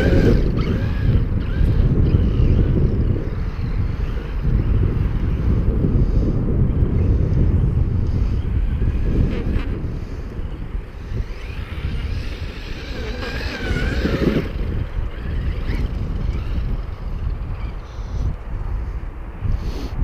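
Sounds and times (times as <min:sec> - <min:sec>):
electric motor whine: 0:00.0 - 0:06.2, 0:06.9 - 0:18.4
wind buffeting microphone: 0:00.0 - 0:20.0.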